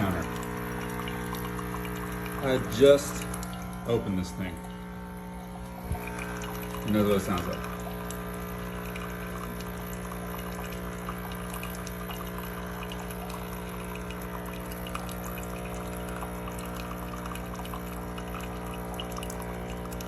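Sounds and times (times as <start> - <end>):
coffee maker motor buzzing hum: 0.0 - 20.0
water pouring: 0.0 - 20.0.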